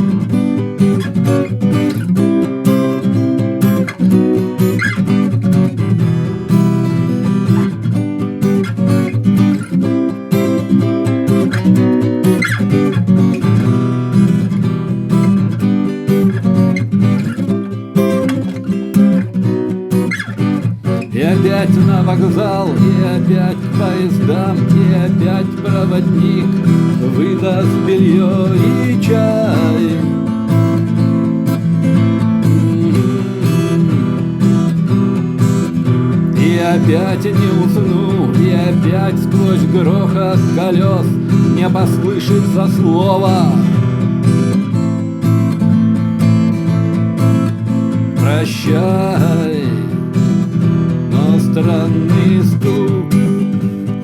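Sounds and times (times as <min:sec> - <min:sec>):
acoustic guitar strumming chords: 0:00.0 - 0:54.0.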